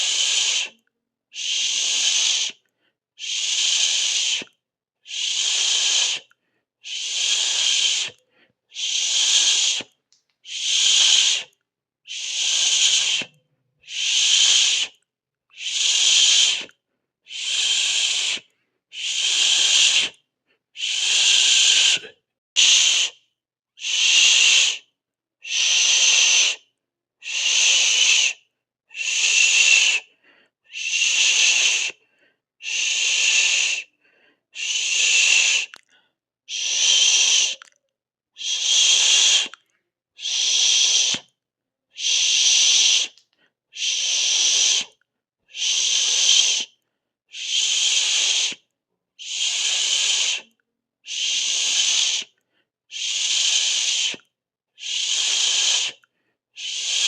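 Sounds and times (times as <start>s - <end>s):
breath hissing: 0.0s - 0.8s, 1.4s - 2.6s, 3.2s - 20.2s, 20.8s - 23.2s, 23.8s - 37.7s, 38.4s - 39.6s, 40.2s - 41.3s, 42.0s - 43.2s, 43.8s - 44.9s, 45.5s - 48.6s, 49.2s - 50.5s, 51.1s - 57.0s.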